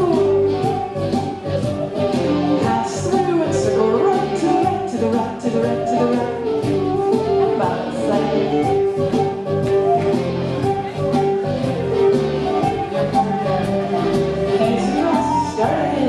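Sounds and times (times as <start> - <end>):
live band playing dance tune: 0.0 - 16.0.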